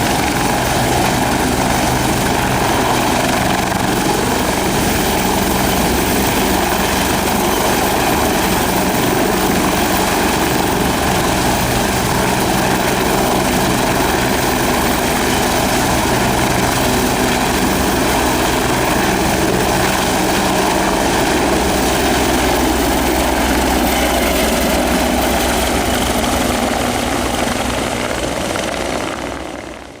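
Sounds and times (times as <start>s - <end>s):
helicopter turbine and rotor: 0.0s - 30.0s.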